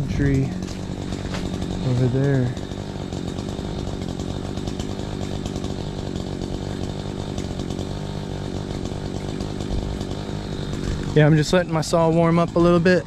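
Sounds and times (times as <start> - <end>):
chainsaw idling: 0.0 - 13.0.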